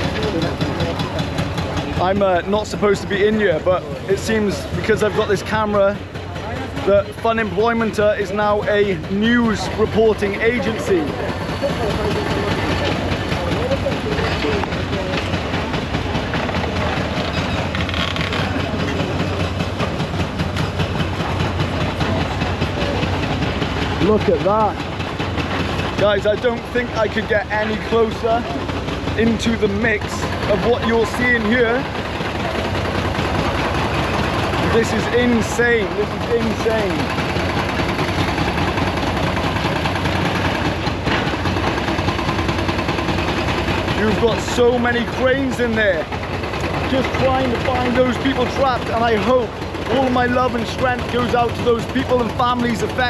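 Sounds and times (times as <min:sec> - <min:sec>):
busy street noise: 0:00.0 - 0:53.0
heavy engines droning: 0:00.0 - 0:53.0.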